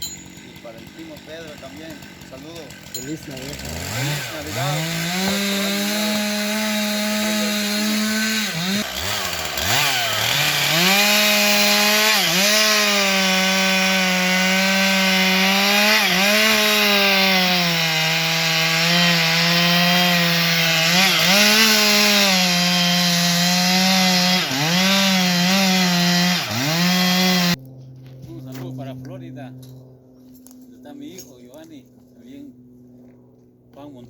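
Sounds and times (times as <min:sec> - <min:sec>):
chainsaw cutting wood: 0:00.0 - 0:27.6.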